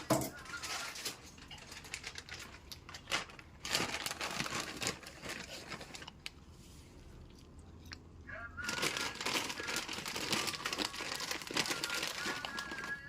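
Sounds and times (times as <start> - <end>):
crinkling and rustling: 0.0 - 7.0, 8.6 - 13.0.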